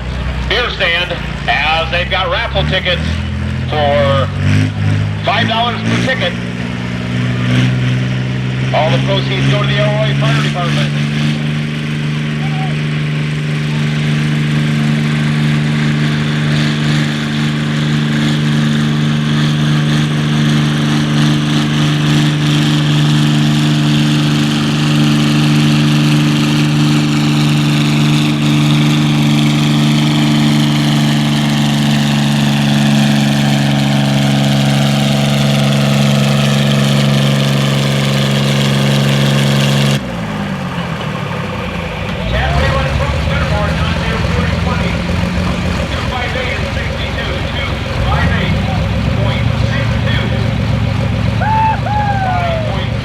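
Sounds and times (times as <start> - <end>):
tractor engine under heavy load: 0.0 - 53.0.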